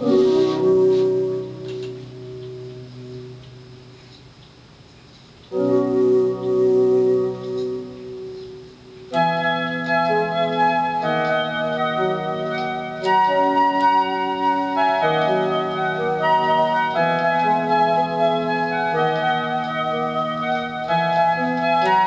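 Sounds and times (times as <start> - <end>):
electronic keyboard chords: 0.0 - 4.4, 5.4 - 22.0.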